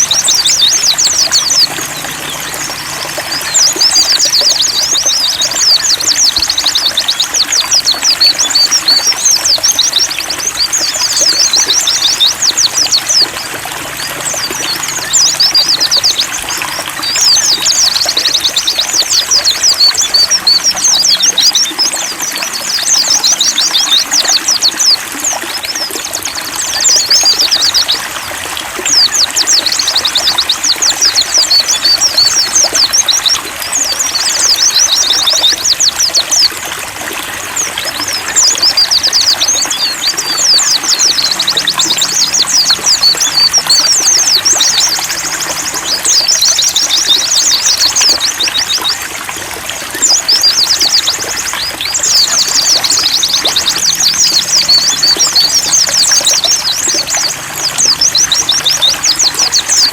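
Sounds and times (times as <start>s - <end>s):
birds twittering: 0.0s - 59.9s
trickle of running water: 0.0s - 59.9s.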